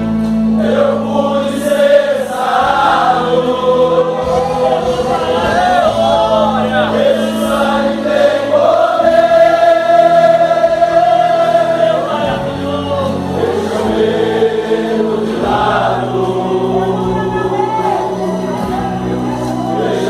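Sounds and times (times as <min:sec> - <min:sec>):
low instrumental accompaniment: 0:00.0 - 0:20.0
men's choir singing: 0:00.0 - 0:20.0.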